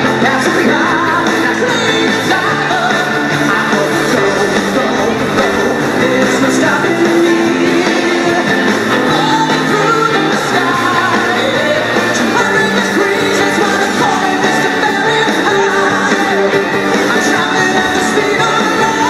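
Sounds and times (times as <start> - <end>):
lead vocal singing: 0.0 - 19.0
rock and roll song: 0.0 - 19.0.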